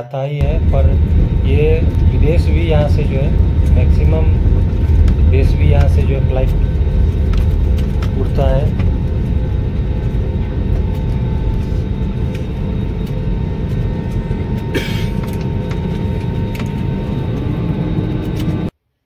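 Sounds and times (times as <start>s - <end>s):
airliner cabin rumble: 0.4s - 18.7s.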